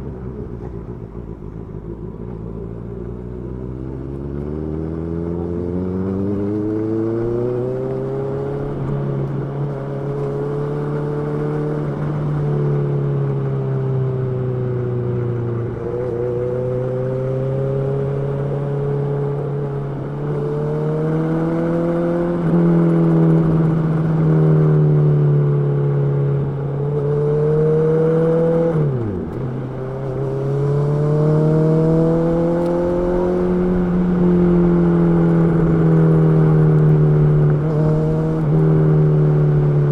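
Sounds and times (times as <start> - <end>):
motorcycle engine running: 0.0 - 17.3, 18.0 - 39.9.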